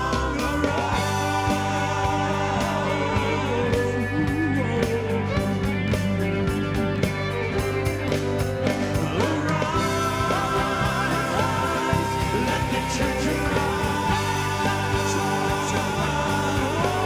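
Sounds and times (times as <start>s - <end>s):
person singing: 0.0s - 8.0s, 8.6s - 17.0s
worship band music: 0.0s - 17.0s.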